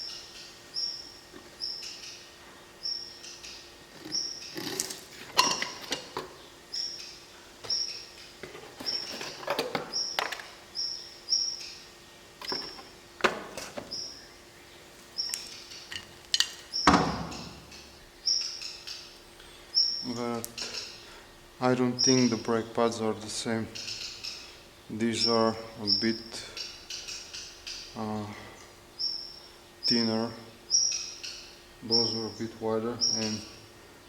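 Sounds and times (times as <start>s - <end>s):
bird chirping: 0.0s - 13.0s, 13.6s - 34.0s.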